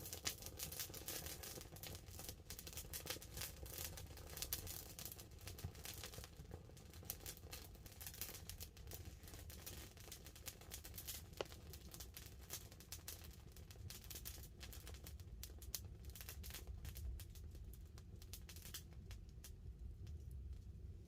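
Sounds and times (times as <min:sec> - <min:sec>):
campfire crackling faintly: 0:00.0 - 0:21.0.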